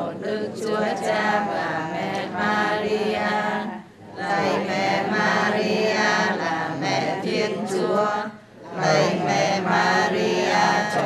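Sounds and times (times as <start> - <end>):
women chanting a prayer: 0.0 - 11.0.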